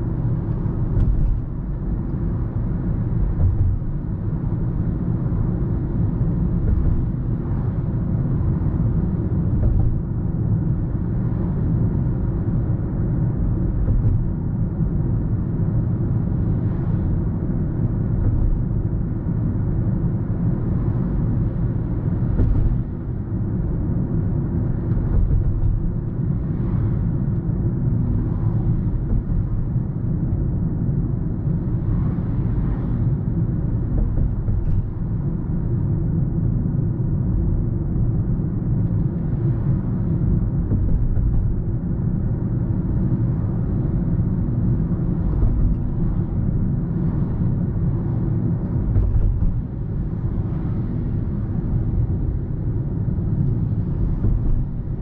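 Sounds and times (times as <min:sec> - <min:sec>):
tyre and road noise: 0:00.0 - 0:55.0.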